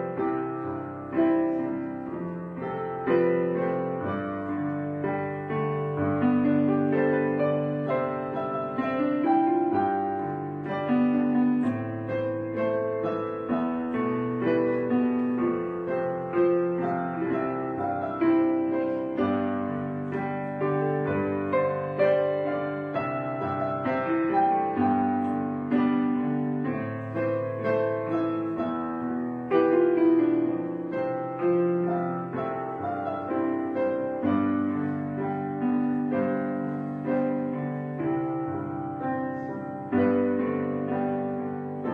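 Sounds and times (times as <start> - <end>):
piano music: 0.0 - 41.9.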